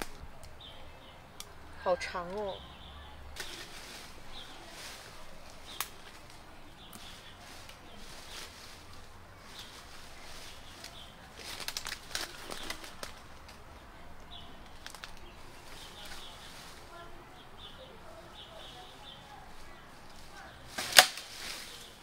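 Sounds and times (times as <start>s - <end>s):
crackling twigs: 0.0s - 22.0s
footsteps on leaves and twigs: 0.0s - 22.0s.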